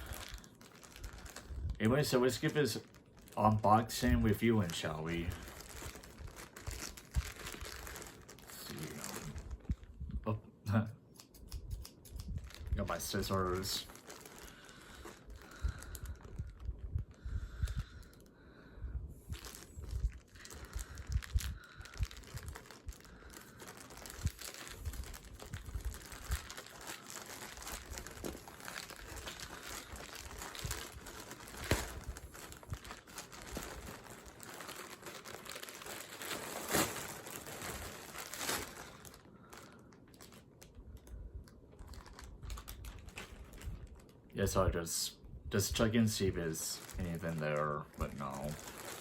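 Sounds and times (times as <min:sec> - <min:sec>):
packaging crinkling and tearing: 0:00.0 - 0:10.0, 0:11.2 - 0:18.4, 0:19.3 - 0:44.9, 0:45.6 - 0:49.0.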